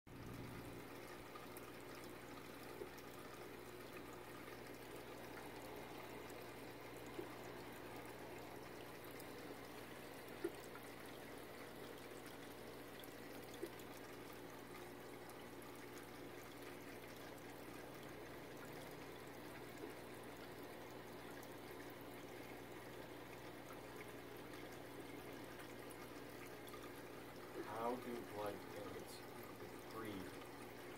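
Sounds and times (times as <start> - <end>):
aquarium water trickling: 0.1 - 30.9
low steady hum: 0.1 - 30.9.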